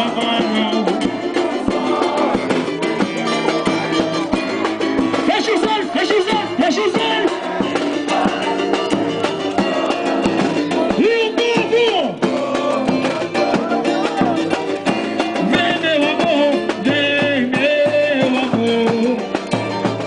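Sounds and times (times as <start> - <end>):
samba drums: 0.0 - 20.0
strummed guitars: 0.0 - 20.0
voices singing: 0.0 - 20.0.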